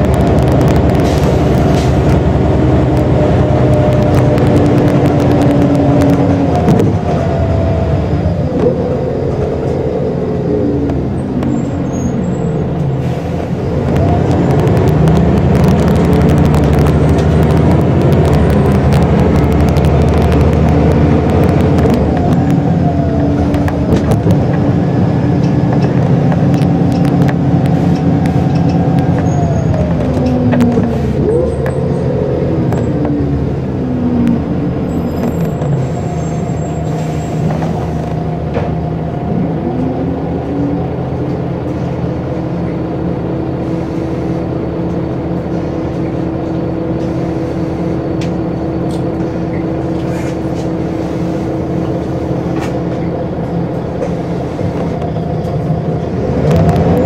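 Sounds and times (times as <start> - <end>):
bus engine and gearbox whine: 0.0 - 57.0
bus engine idling: 0.0 - 57.0.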